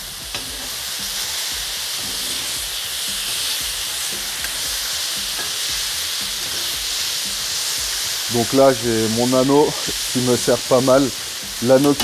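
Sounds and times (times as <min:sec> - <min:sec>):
vegetables sizzling on a griddle: 0:00.0 - 0:12.0.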